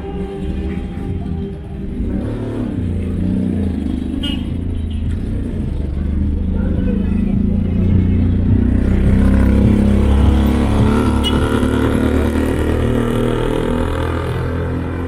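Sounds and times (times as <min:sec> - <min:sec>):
road noise: 0:00.0 - 0:15.0
vehicle engine droning: 0:00.0 - 0:15.0.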